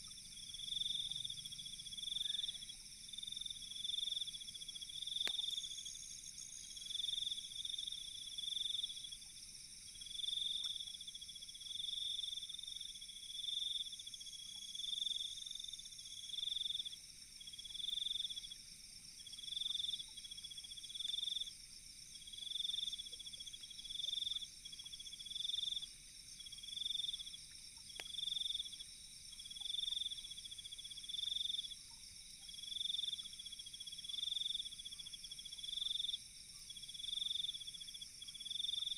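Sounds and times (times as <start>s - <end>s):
cricket chirping trills: 0.0s - 38.9s.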